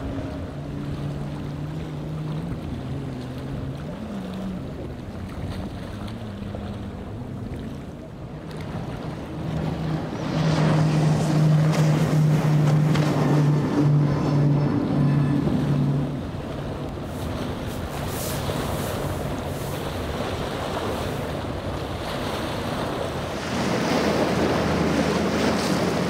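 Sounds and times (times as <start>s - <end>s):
motorboat engines running: 0.0s - 26.0s
rushing water: 0.0s - 26.0s
wind: 0.0s - 26.0s.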